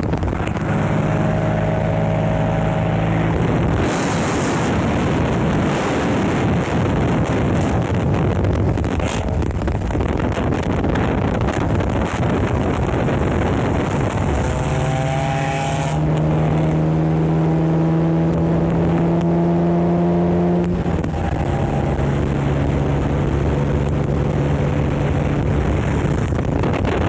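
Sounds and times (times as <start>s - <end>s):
car engine droning: 0.0s - 27.0s
wind rushing over microphone: 0.0s - 27.0s.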